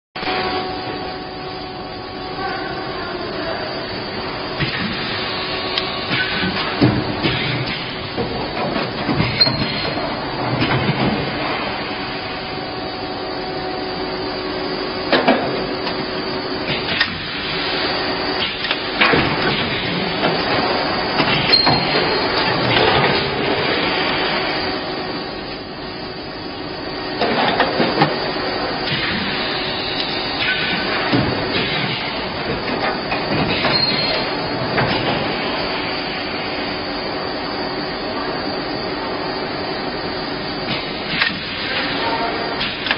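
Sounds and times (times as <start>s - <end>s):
machine whir and hiss: 0.2s - 42.9s.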